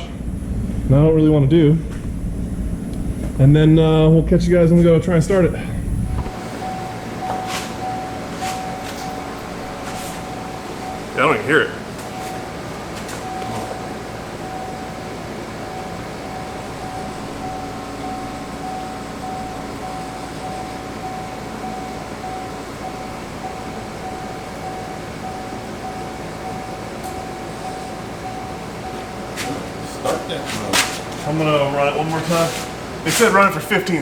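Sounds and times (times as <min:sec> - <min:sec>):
electric pump humming with whine: 0:00.0 - 0:34.0.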